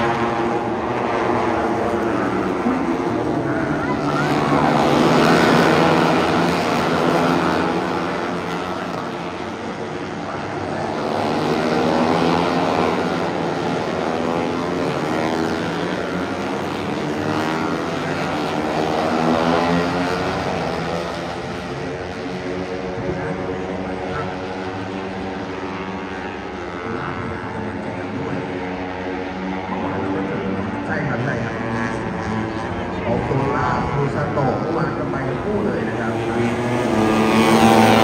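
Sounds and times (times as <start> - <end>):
motorcycle engines at high revs: 0.0 - 38.0.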